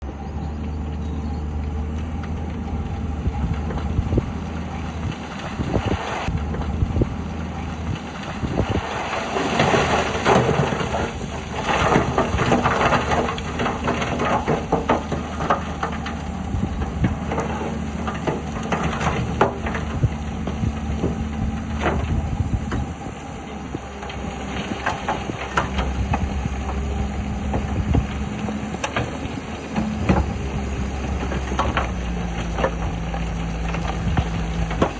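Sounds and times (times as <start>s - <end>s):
diesel machinery engines running: 0.0s - 34.9s
clanks and crunching of rock: 1.0s - 34.9s.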